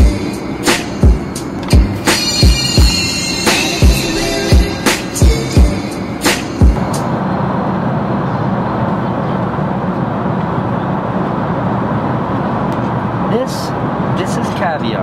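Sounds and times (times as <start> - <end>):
jet airliner cabin hum: 0.0 - 14.2.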